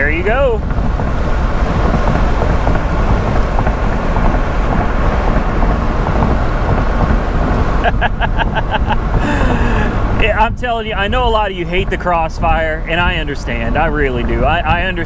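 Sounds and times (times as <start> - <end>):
road and engine noise: 0.0 - 15.0
wind buffeting microphone: 0.0 - 15.0.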